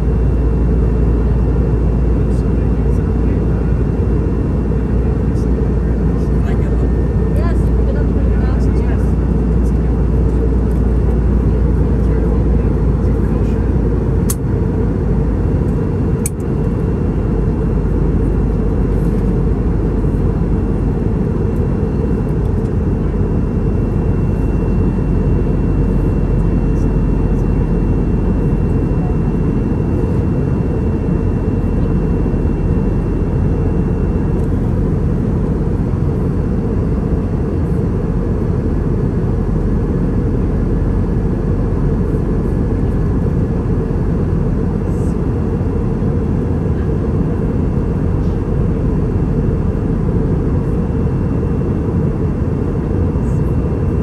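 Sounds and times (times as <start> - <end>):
airliner engine and airflow roar: 0.0 - 54.0.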